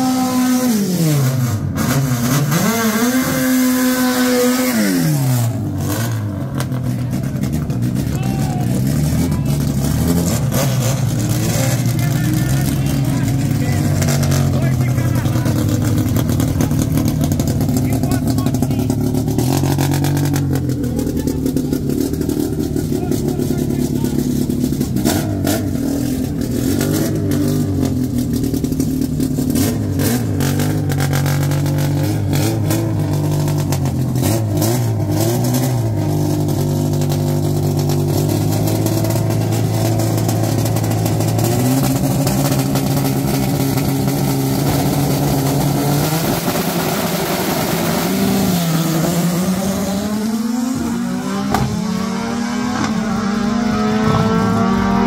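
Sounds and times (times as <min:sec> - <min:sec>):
engine revving up: 0:00.0 - 0:28.8, 0:38.2 - 0:55.0
race car engines idling and blipping: 0:00.0 - 0:55.0
engine crackles: 0:05.2 - 0:55.0.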